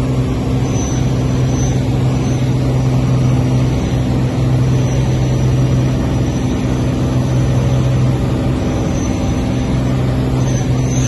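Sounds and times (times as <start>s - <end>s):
propeller plane engine in cabin: 0.0s - 11.0s.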